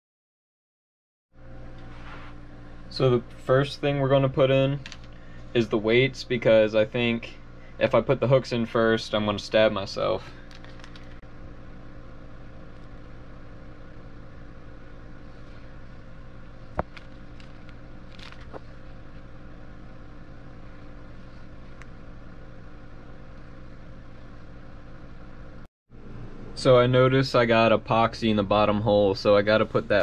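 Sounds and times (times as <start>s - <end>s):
steady machine hum: 1.4s - 30.0s.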